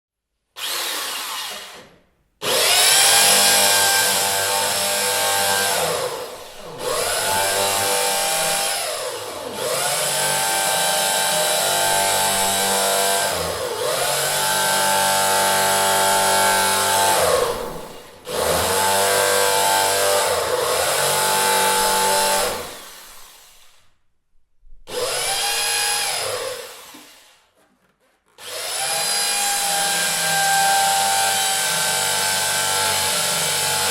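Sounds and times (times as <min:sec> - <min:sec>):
electric drill motor whine: 0:02.4 - 0:23.6, 0:24.9 - 0:27.4, 0:28.4 - 0:33.9.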